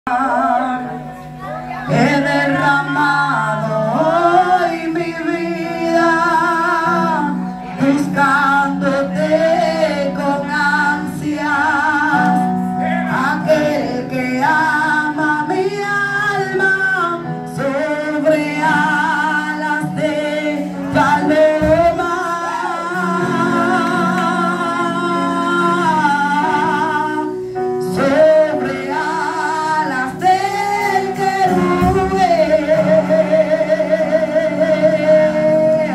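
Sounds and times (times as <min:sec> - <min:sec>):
sustained keyboard chords: 0:00.1 - 0:35.9
woman singing into a microphone: 0:00.1 - 0:35.9.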